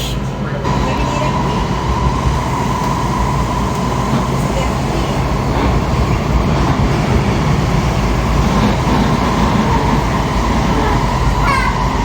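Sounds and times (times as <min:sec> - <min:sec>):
train wheels rumbling on track: 0:00.0 - 0:12.0
train motor whine: 0:00.7 - 0:12.0.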